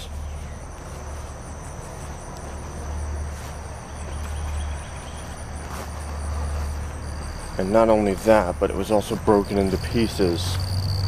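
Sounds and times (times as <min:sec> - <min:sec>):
insects trilling: 0:00.0 - 0:11.0
low uneven rumble: 0:00.0 - 0:11.0.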